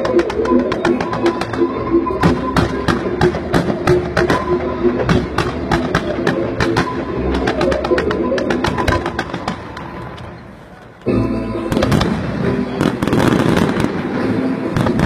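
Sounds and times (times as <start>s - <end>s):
fireworks bangs and crackles: 0.0s - 10.4s, 11.7s - 15.0s
music with held notes: 0.0s - 15.0s.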